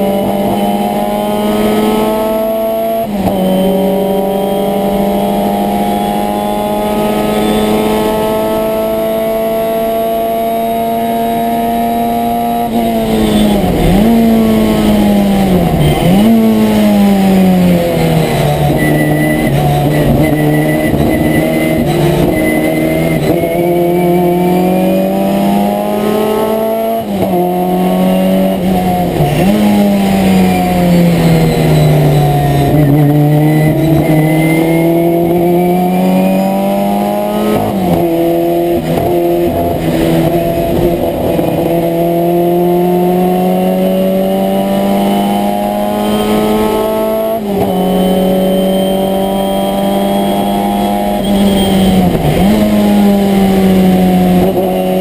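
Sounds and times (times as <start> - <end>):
car engine revving hard: 0.0 - 55.0.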